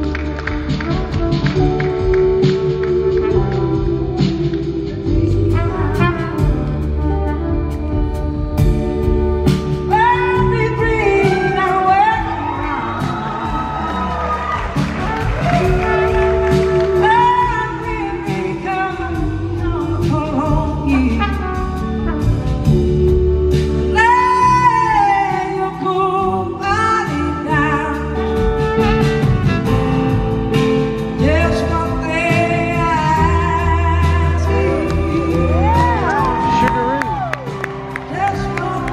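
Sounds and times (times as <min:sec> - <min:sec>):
woman singing: 0:00.0 - 0:28.8, 0:31.2 - 0:38.9
drums: 0:00.0 - 0:38.9.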